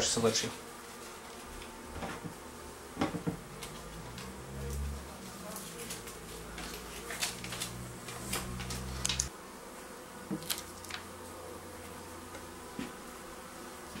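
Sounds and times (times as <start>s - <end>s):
honeybee buzzing: 0.0s - 14.0s.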